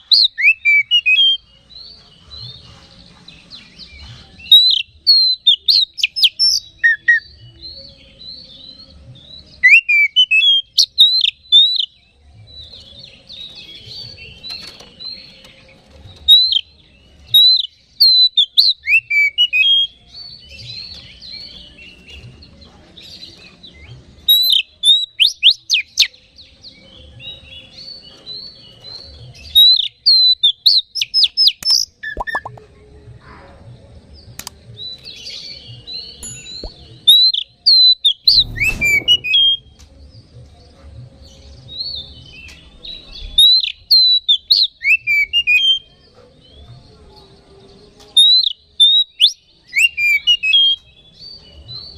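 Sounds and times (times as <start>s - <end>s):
magpie-robin whistled song: 0.0s - 32.6s, 34.8s - 46.8s, 48.0s - 51.9s.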